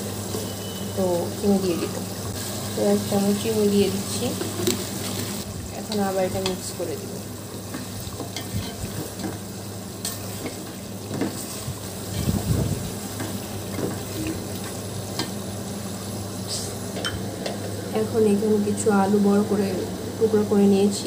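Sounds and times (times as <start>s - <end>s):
gravy sizzling: 0.0s - 21.0s.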